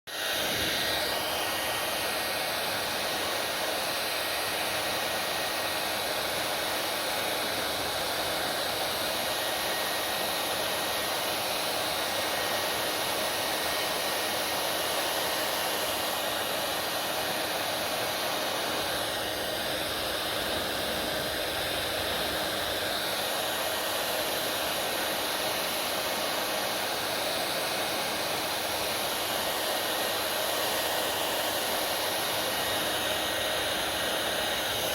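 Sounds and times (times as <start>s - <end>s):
hair dryer blowing: 0.1s - 34.9s.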